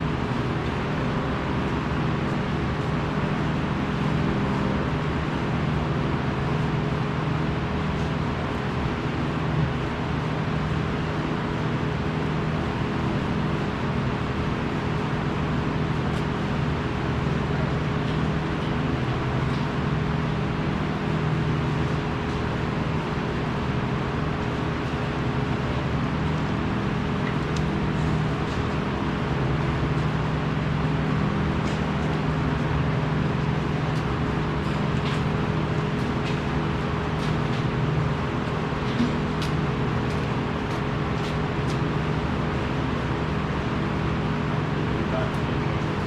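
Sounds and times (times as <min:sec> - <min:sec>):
machinery hum: 0:00.0 - 0:46.0.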